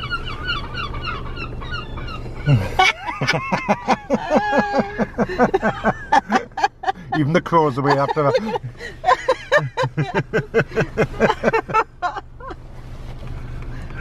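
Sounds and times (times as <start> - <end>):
seagulls calling: 0.0 - 12.5
steady low hum: 0.0 - 14.0.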